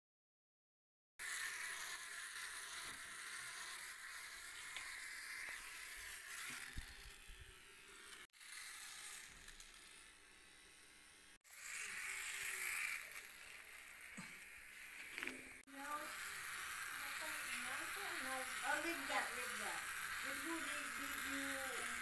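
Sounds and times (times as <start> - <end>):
toy robot motor buzzing: 1.2 - 22.0.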